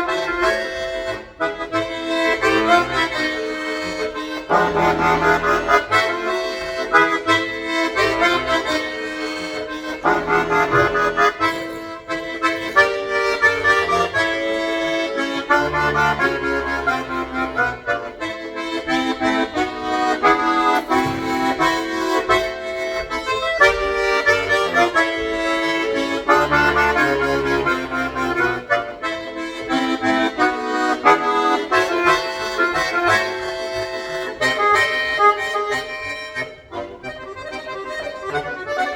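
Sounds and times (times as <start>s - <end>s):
solo accordion playing: 0.0s - 38.9s.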